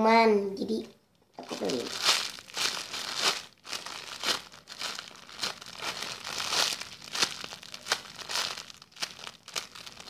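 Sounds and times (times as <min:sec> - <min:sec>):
plastic bag crinkling: 0:01.4 - 0:10.0.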